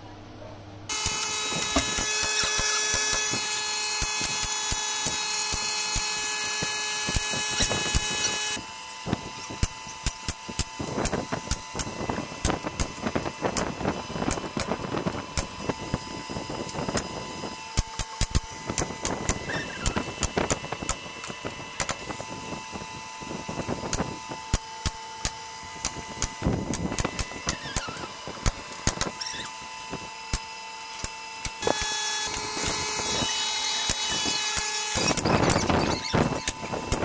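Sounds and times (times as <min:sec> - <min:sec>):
nail gun shooting nails: 0:00.9 - 0:22.4, 0:23.6 - 0:29.2, 0:29.8 - 0:37.0.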